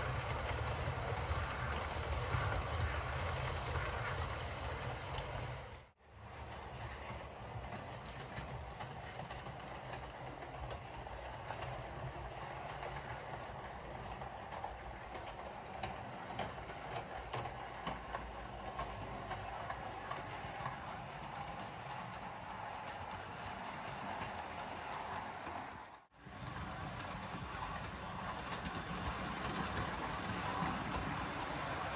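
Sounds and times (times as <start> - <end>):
wheels clicking over rail joints: 0.0 - 31.9.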